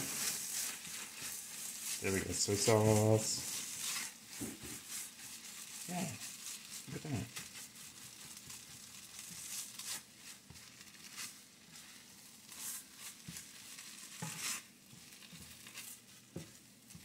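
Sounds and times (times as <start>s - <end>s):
rice sizzling in a skillet: 0.0s - 17.0s
spatula stirring rice: 0.0s - 17.0s.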